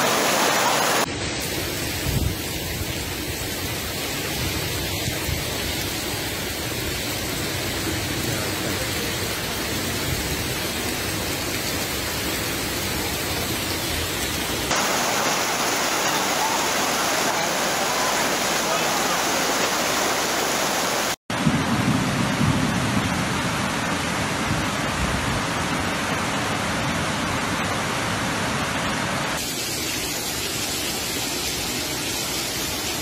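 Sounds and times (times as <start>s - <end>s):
floodwater torrent rushing: 0.0s - 33.0s
torrential rain in wind: 0.0s - 33.0s.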